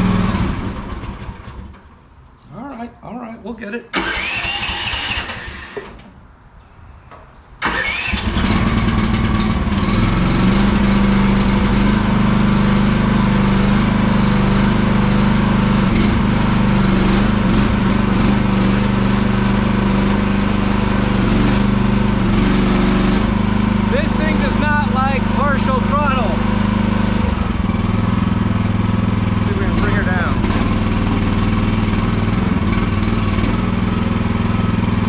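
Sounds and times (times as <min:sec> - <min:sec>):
small engine starting and running: 0:00.0 - 0:02.2, 0:03.9 - 0:06.1, 0:07.6 - 0:35.0.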